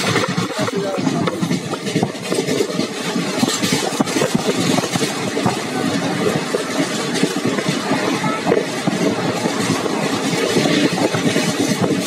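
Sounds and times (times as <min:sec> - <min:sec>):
train rumble: 0:00.0 - 0:12.0
wheels clattering on rails: 0:00.0 - 0:12.0.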